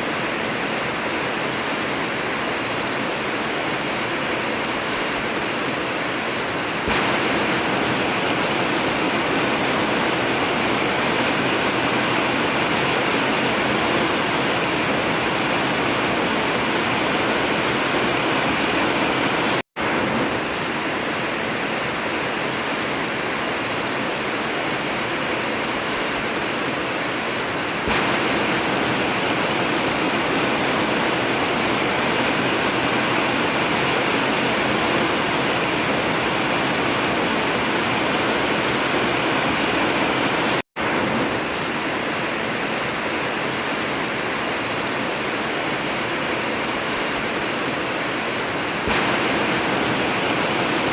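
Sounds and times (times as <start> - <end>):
heavy rain on a tin roof: 0.0 - 50.9.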